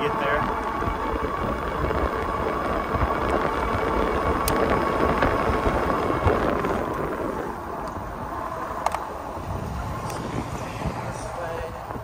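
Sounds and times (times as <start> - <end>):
bicycle tyre noise: 0.0 - 12.0
faint steady whine: 0.0 - 12.0
wind buffeting microphone: 0.0 - 12.0.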